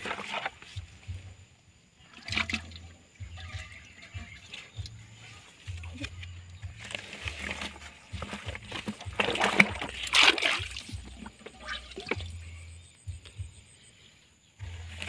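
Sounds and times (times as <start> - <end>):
water splashing and sloshing: 0.0 - 13.7, 14.6 - 15.0.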